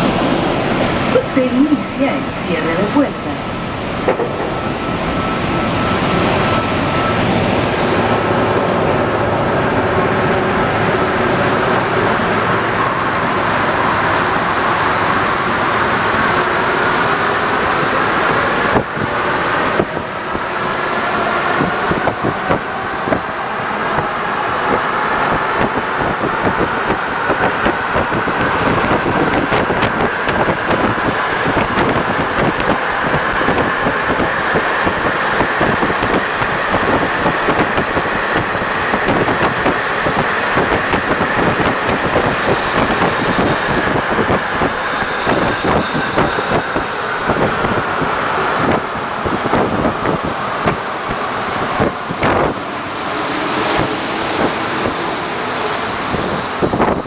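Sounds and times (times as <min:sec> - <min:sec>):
train rumbling and rattling: 0:00.0 - 0:57.0
train whine rising in pitch: 0:00.0 - 0:57.0.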